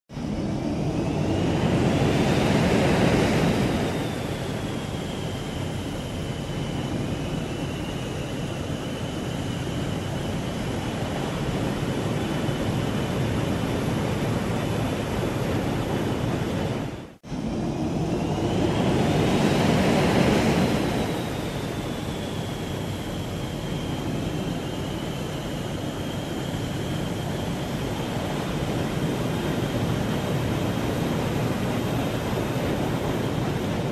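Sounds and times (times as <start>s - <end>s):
jet engine revving up: 0.1s - 33.9s.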